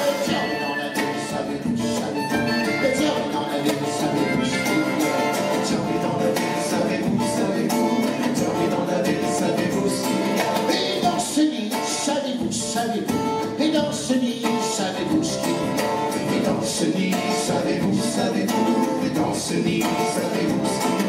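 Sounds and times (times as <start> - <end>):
acoustic guitar strumming: 0.0 - 21.0
voices singing: 0.0 - 21.0.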